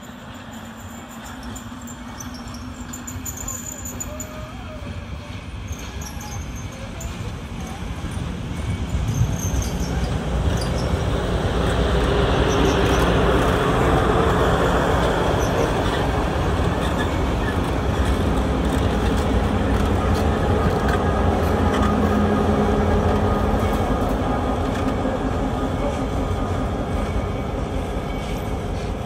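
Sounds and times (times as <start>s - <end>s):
diesel locomotive engine hum: 0.0s - 29.0s
train wheels rumbling on track: 0.0s - 29.0s.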